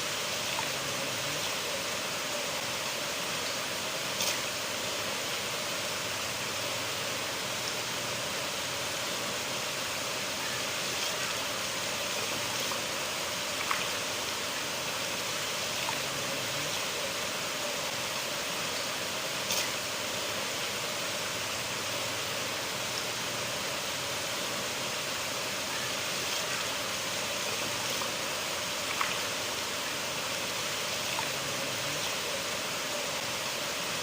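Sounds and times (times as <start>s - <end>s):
river water flowing: 0.0s - 34.0s.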